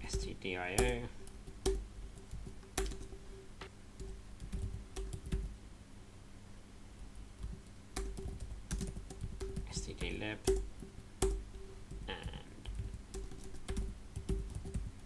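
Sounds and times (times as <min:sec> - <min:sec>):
keyboard typing: 0:00.0 - 0:05.5, 0:07.4 - 0:15.0
faint steady hum: 0:00.0 - 0:15.0.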